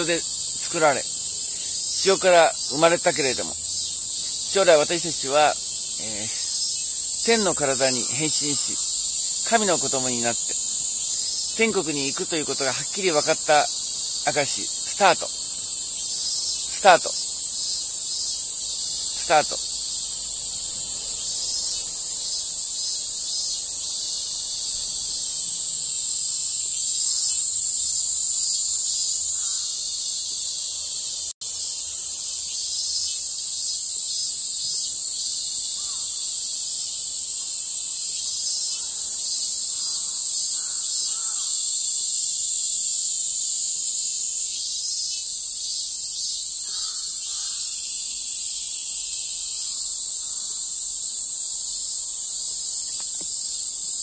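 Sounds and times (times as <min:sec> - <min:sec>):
cicada chorus buzzing: 0:00.0 - 0:54.0.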